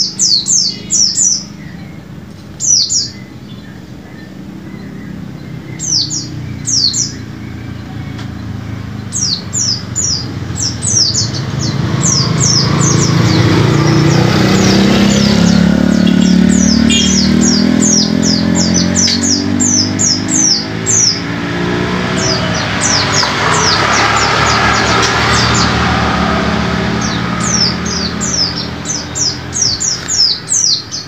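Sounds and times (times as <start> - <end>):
bird singing high falling notes: 0.0 - 31.0
vehicle engine hum: 0.0 - 31.0.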